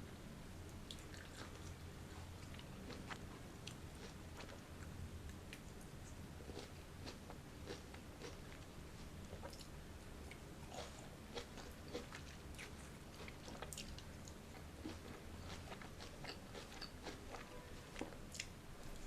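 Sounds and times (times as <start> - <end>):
faint low hum: 0.0 - 19.0
chewing juicy fruit: 0.7 - 19.0.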